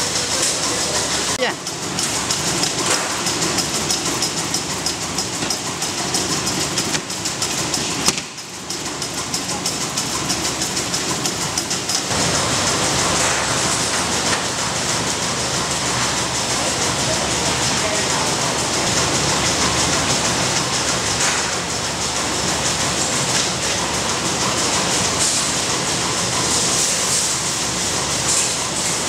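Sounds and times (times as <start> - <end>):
machinery rattling and clicking: 0.0 - 29.0.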